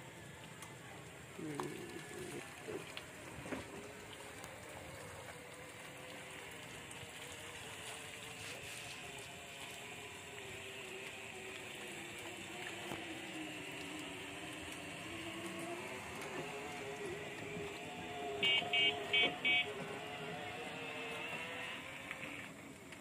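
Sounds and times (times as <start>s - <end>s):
water pattering onto river: 0.0s - 23.0s.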